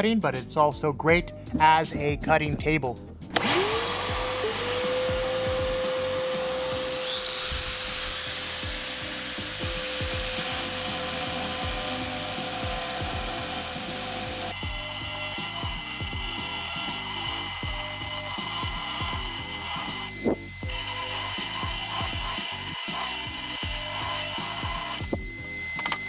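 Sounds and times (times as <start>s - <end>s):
background music with steady beat: 0.0s - 26.0s
angle grinder cutting tile: 3.3s - 26.0s
dust extractor running: 3.3s - 26.0s.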